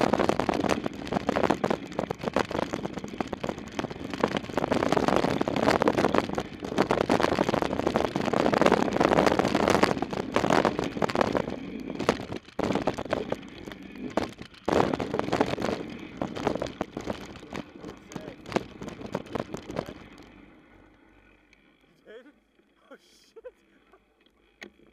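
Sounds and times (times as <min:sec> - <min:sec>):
wind rushing over microphone: 0:00.0 - 0:20.4
bike clattering and rattling: 0:00.0 - 0:21.7
tyres on dirt: 0:00.0 - 0:24.9.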